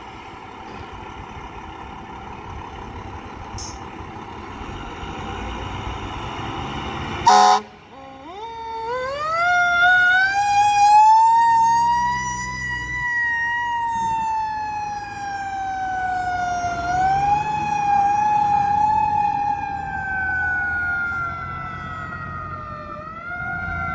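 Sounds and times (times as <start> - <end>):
fire engine siren wailing: 0.0 - 23.9
truck engine rumble: 0.0 - 23.9.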